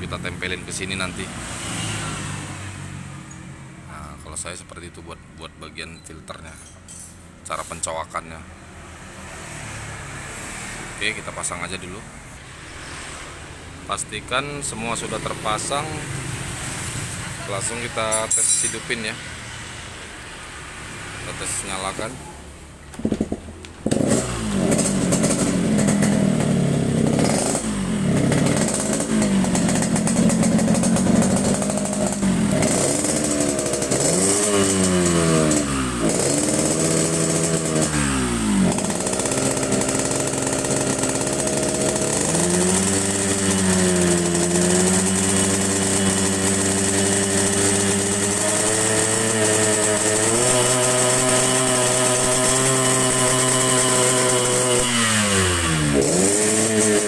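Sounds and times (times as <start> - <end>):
two-stroke motorcycle engine revving: 0.0 - 3.6, 12.8 - 22.2, 23.0 - 57.0.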